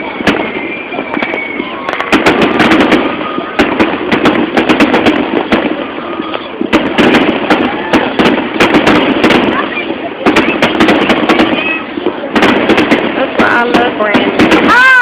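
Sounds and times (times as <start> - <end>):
fireworks bangs and crackles: 0.0 - 15.0
fireworks booming: 0.0 - 15.0.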